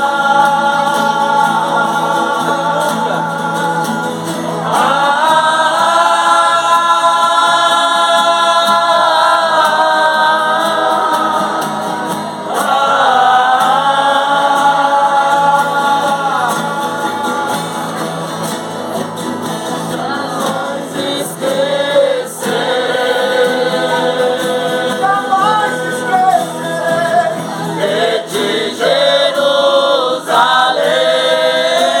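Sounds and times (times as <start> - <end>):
voices singing together: 0.0 - 32.0.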